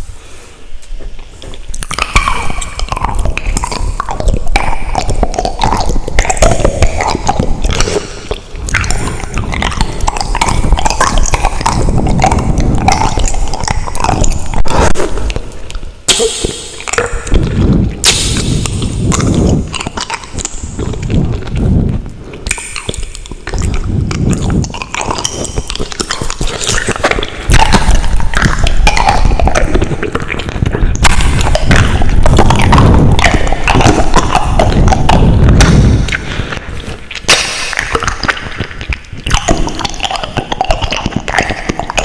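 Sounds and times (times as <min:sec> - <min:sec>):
person chewing noodles: 0:00.0 - 0:42.0.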